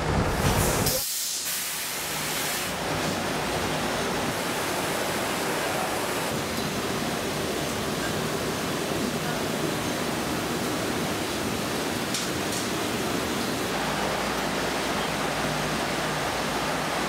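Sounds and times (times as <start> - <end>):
floor fan blowing air: 0.0 - 17.0.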